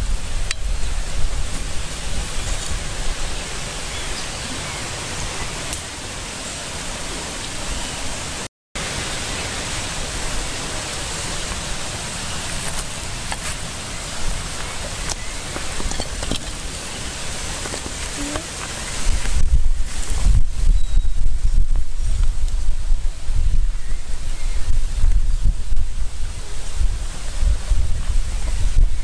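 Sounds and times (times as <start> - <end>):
wind buffeting microphone: 0.0 - 7.4, 9.8 - 29.0
steady outdoor hiss: 0.0 - 29.0.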